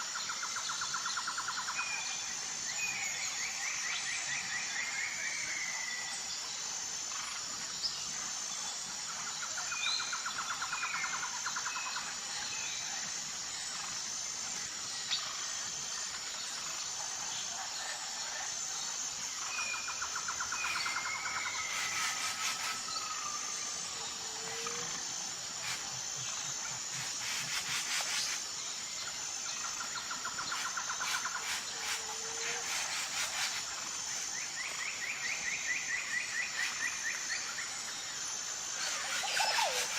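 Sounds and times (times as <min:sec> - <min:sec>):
pulsing insect chirr: 0:00.0 - 0:39.9.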